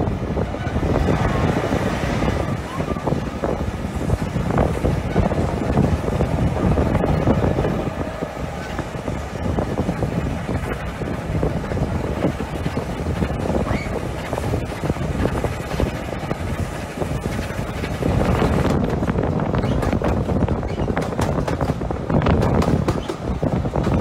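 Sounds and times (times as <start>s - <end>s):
train carriage rumbling on track: 0.0s - 24.0s
wind buffeting microphone: 0.0s - 24.0s.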